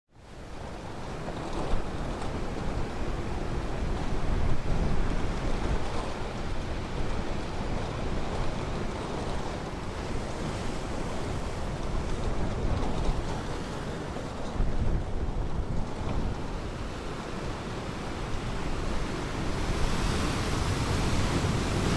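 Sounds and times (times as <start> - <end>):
ocean surf washing onto beach: 0.3 - 21.9
wind on microphone: 0.4 - 21.9.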